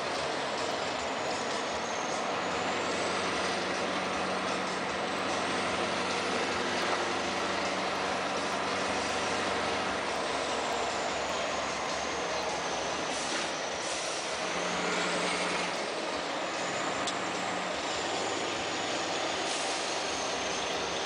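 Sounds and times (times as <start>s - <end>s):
truck diesel engine running: 0.0s - 21.0s
tyre and road noise: 0.0s - 21.0s.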